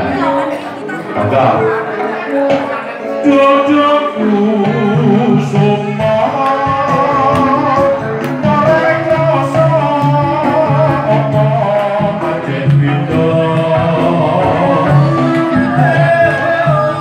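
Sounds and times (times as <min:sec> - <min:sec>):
man singing into microphone: 0:03.0 - 0:17.0.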